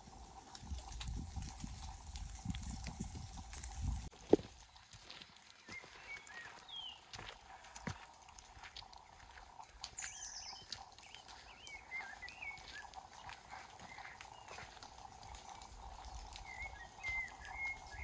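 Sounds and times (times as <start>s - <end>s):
light ticks and pattering: 0.0s - 18.0s
songbirds singing: 0.0s - 18.0s.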